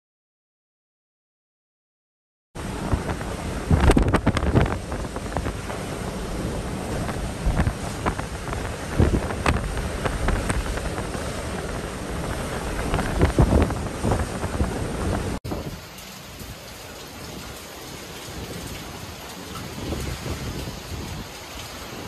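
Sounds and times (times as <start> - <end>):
heavy rain hiss: 2.6 - 22.0
strong wind gusting: 2.6 - 22.0
surf breaking on seawall: 2.6 - 22.0.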